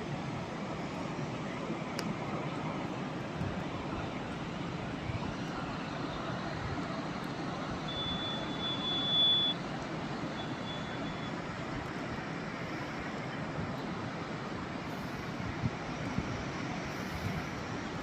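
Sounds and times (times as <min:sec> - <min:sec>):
rushing water roar: 0:00.0 - 0:18.0.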